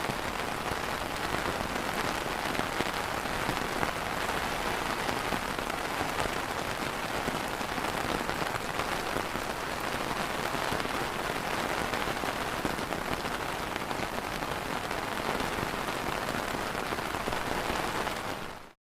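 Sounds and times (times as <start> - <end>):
rain pattering on an umbrella: 0.0 - 18.8.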